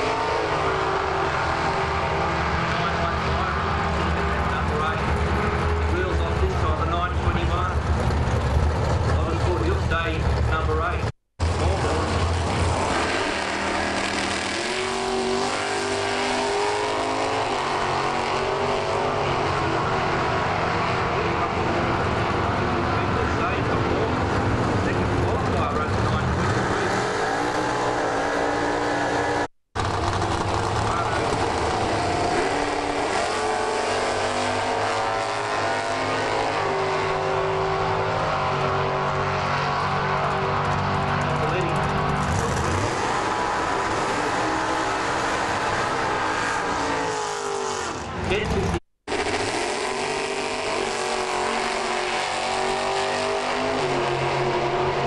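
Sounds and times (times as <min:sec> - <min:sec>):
racing car engines roaring: 0:00.0 - 0:55.0.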